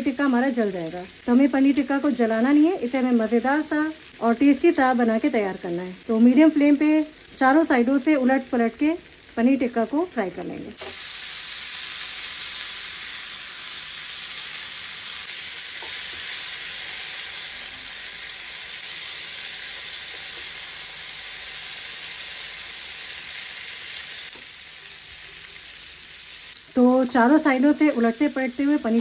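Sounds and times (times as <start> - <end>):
food sizzling in oil: 0.0 - 29.0.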